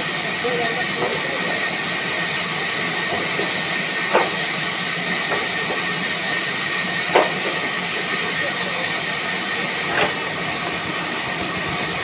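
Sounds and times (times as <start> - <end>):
loud steady hissing: 0.0 - 12.0.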